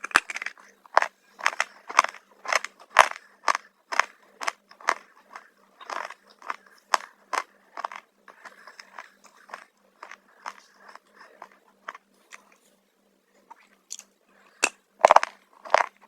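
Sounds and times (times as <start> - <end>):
chips being crunched and chewed: 0.0 - 12.0, 15.0 - 16.0.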